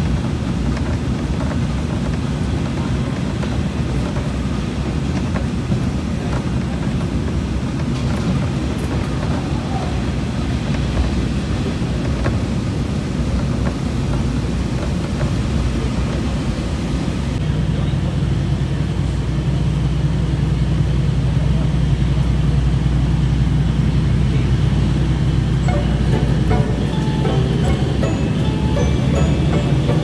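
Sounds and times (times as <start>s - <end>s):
train engine and wheels rumbling: 0.0s - 30.0s.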